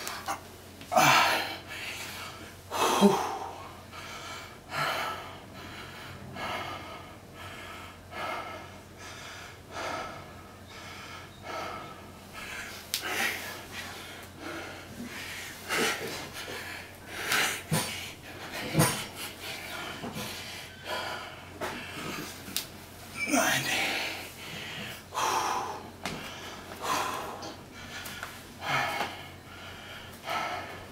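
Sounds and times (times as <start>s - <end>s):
man breathing heavily: 0.0s - 30.9s.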